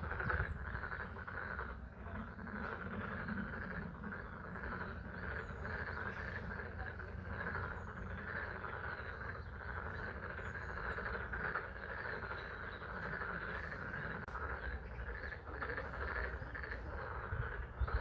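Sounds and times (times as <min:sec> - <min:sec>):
chorus of frogs calling: 0:00.0 - 0:18.0.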